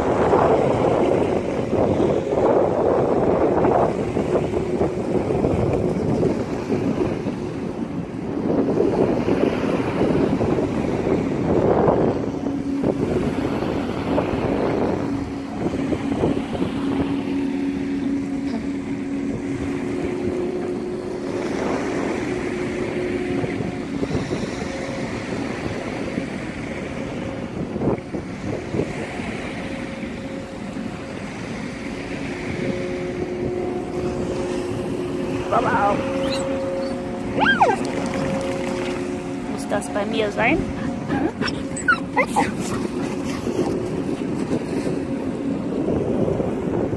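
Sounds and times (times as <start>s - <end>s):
ship low steady hum: 0.0s - 46.9s
wind buffeting microphone: 0.0s - 46.9s.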